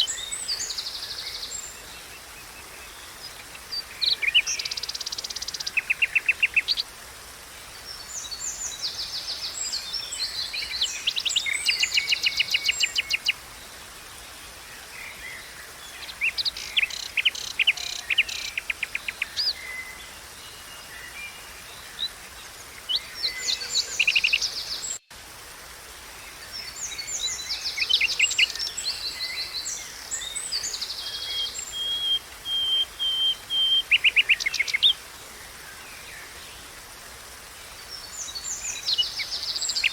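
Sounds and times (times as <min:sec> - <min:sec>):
songbirds trilling and chirping: 0:00.0 - 0:07.0, 0:07.7 - 0:25.1, 0:26.3 - 0:36.7, 0:37.4 - 0:39.9
faint background hiss: 0:00.0 - 0:39.9.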